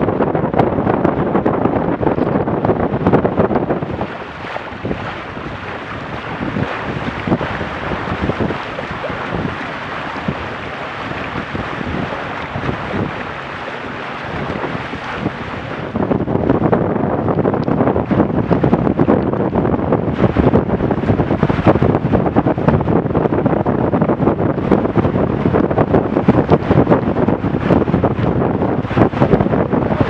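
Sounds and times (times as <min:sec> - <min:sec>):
wind on microphone: 0:00.0 - 0:30.0
water rushing past hull: 0:00.1 - 0:30.0.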